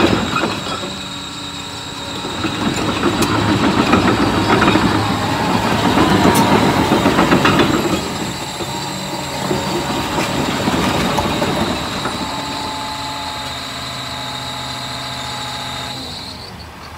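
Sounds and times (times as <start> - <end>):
steel tracks clanking on gravel: 0.0 - 16.3
diesel engine humming: 0.0 - 16.9.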